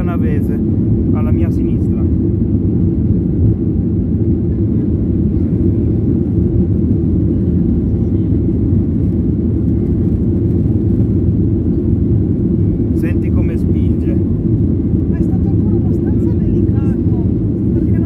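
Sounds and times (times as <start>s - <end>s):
jet engines and rushing air: 0.0s - 18.0s.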